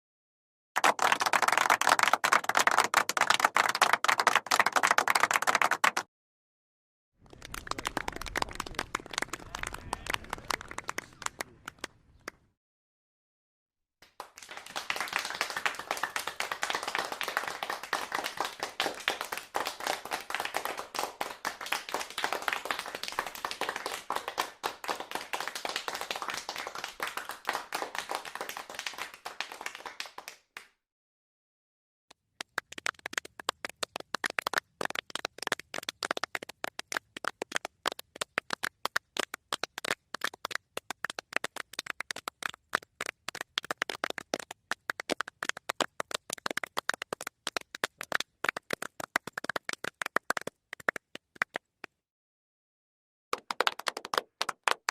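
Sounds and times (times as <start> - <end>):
crowd applause: 0.8 - 6.1, 7.2 - 12.4, 14.0 - 30.6, 32.5 - 51.1, 53.4 - 54.9
small group clapping: 0.8 - 6.1, 7.2 - 12.6, 14.0 - 30.8, 32.1 - 52.0, 53.3 - 54.9.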